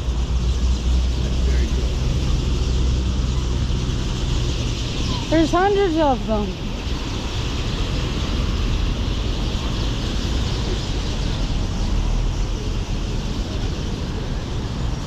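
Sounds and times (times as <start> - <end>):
chatter of roosting birds: 0.0 - 15.0
low rumble of city traffic: 0.0 - 15.0.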